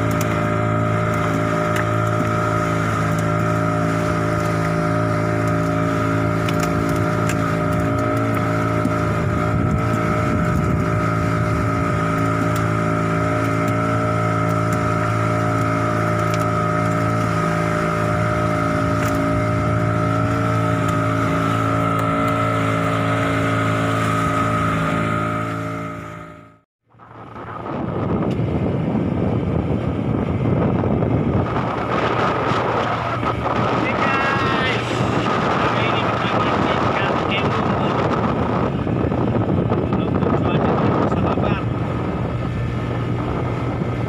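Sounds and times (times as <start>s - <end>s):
boat motor humming: 0.0s - 44.0s.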